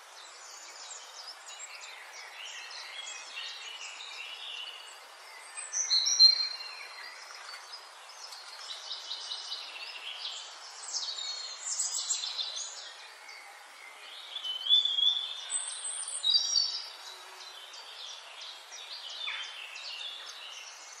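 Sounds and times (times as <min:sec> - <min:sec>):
forest birds chirping and whistling: 0:00.0 - 0:21.0
steady background hiss: 0:00.0 - 0:21.0.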